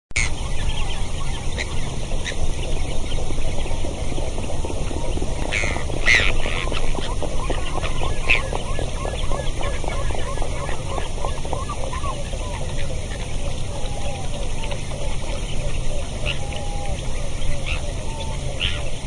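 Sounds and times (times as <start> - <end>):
crackling rustle: 0.2 - 19.0
wind buffeting microphone: 0.2 - 19.0.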